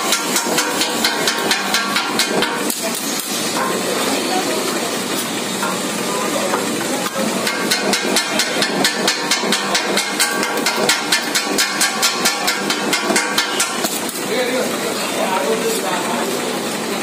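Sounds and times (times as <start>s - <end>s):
steel blades clanging on griddle: 0.0s - 16.2s.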